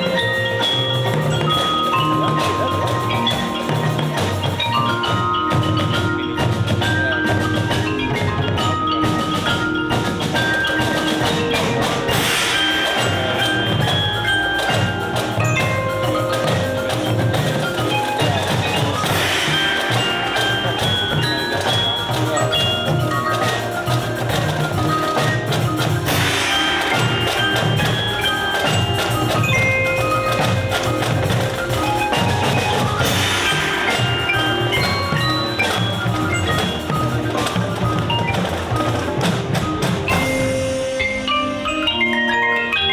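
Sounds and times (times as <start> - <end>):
marching band mallet melody: 0.0 - 42.9.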